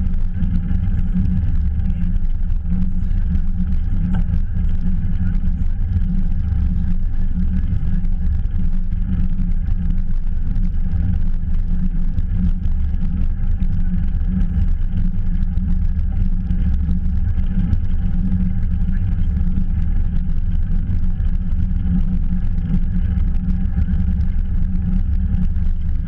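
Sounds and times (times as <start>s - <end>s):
bicycle rolling noise: 0.0s - 26.0s
wind rumble on microphone: 0.0s - 26.0s.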